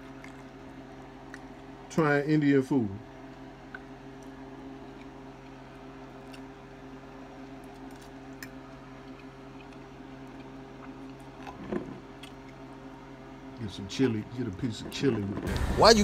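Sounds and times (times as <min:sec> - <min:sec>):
appliance humming: 0:00.0 - 0:16.0.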